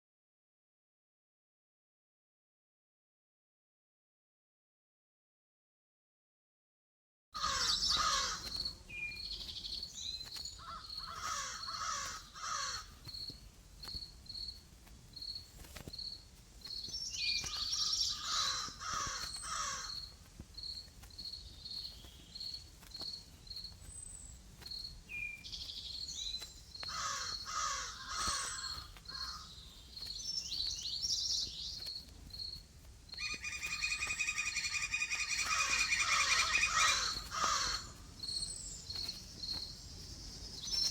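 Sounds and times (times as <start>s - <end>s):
rapid bird trill: 7.4s - 14.6s, 15.2s - 40.9s
bird calls: 7.4s - 40.9s
insect chirping: 7.4s - 40.9s.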